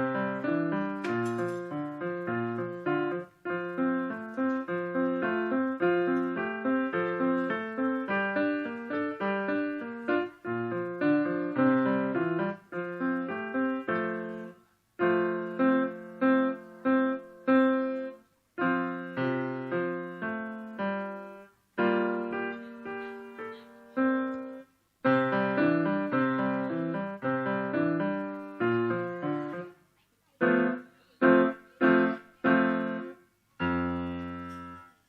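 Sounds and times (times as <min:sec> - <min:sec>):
solo piano piece: 0:00.0 - 0:29.8, 0:30.4 - 0:35.0.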